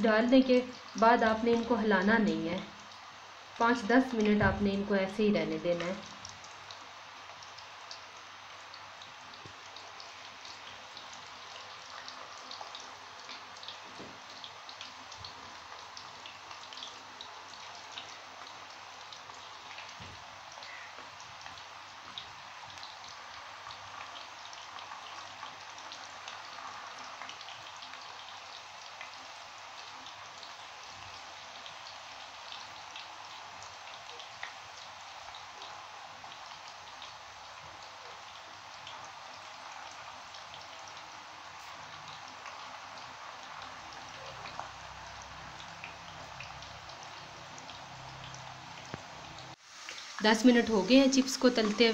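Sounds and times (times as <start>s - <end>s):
potato slices deep-frying in oil: 0.0s - 51.9s.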